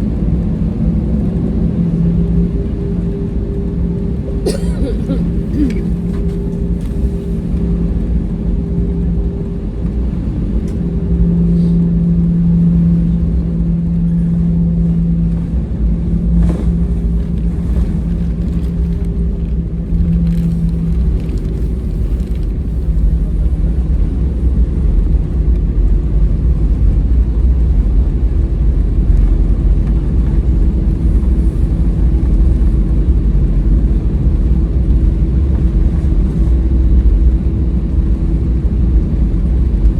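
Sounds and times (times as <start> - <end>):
aircraft cabin rumble: 0.0 - 39.9
jet engine hum: 0.0 - 39.9.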